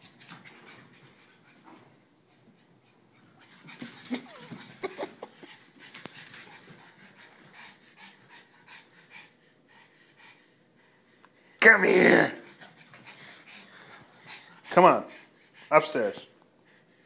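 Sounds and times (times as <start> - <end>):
dog panting: 0.0 - 11.5, 12.4 - 17.0.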